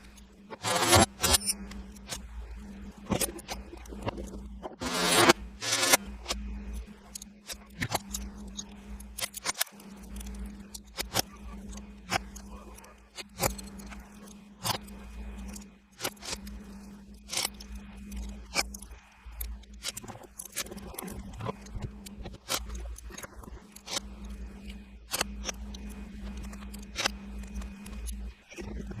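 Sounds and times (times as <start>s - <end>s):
metal parts clicking and scraping: 0.0s - 29.0s
steady low hum: 0.0s - 29.0s.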